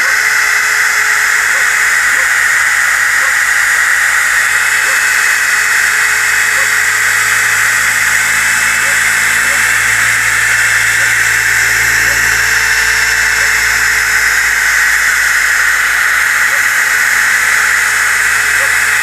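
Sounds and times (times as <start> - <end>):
disc sander sanding wood: 0.0 - 19.0.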